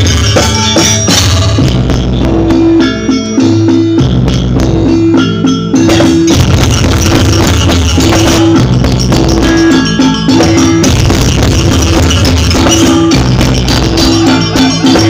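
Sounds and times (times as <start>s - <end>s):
percussion ensemble music: 0.0s - 15.0s.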